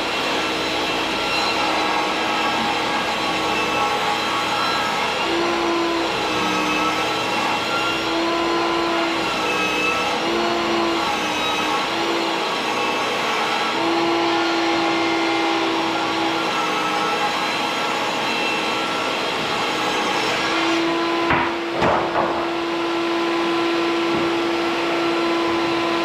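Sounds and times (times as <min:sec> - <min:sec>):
power tool motor humming: 0:00.0 - 0:26.0.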